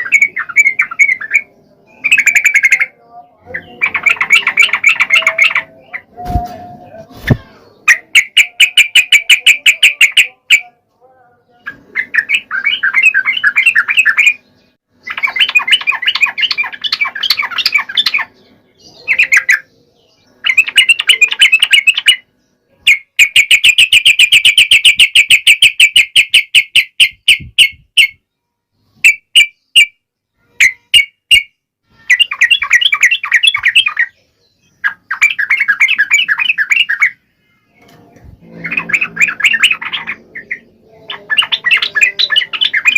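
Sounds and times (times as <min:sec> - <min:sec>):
bird chattering trills: 0:00.0 - 0:06.2, 0:06.8 - 0:10.8, 0:11.6 - 0:19.7, 0:20.3 - 0:28.2, 0:30.5 - 0:42.9.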